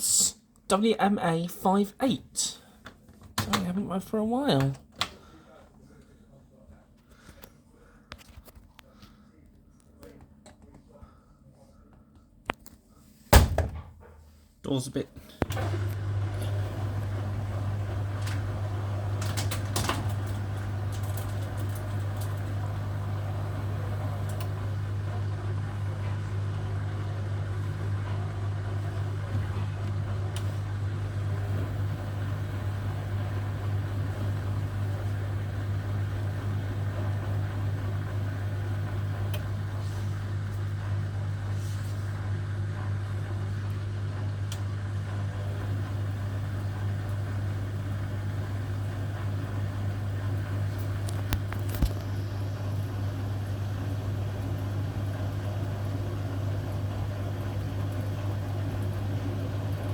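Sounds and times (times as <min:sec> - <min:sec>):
washing machine humming: 0:00.0 - 0:06.6, 0:13.2 - 0:59.9.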